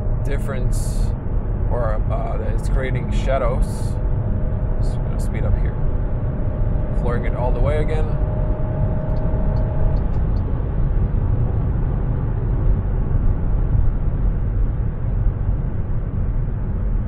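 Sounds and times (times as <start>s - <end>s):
car engine accelerating: 0.0s - 13.9s.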